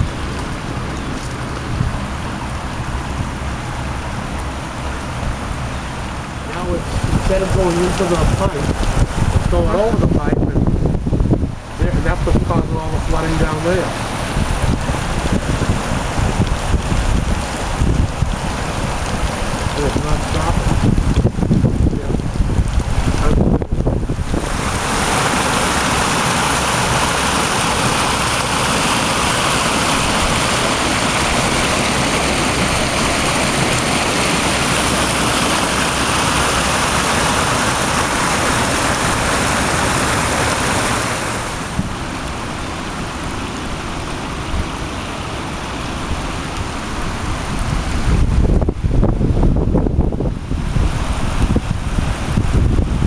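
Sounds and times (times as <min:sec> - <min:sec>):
floodwater rushing over pipe: 0:00.0 - 0:53.0.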